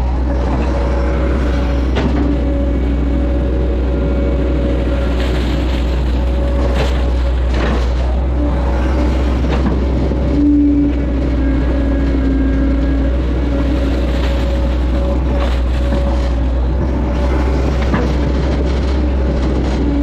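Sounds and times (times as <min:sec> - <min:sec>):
excavator diesel engine running: 0:00.0 - 0:20.0
hydraulic whine: 0:00.0 - 0:20.0.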